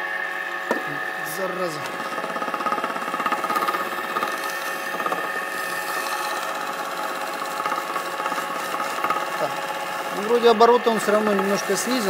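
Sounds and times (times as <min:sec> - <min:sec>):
electric motor humming: 0:00.0 - 0:12.0
wooden block rubbing shaft: 0:01.8 - 0:12.0.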